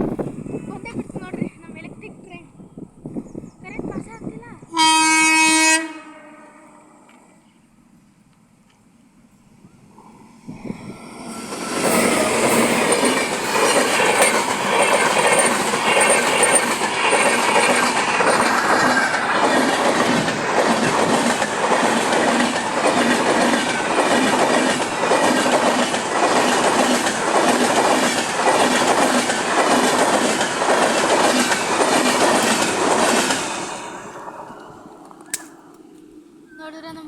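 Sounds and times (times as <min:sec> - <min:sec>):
train passing at speed: 0:00.0 - 0:37.0.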